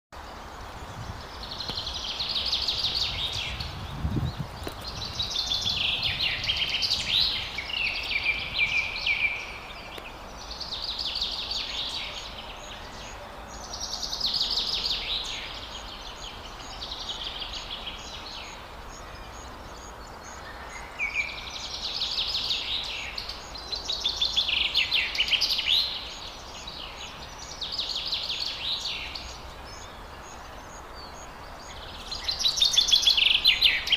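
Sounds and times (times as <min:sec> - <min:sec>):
nestling birds chirping: 0:00.2 - 0:33.9.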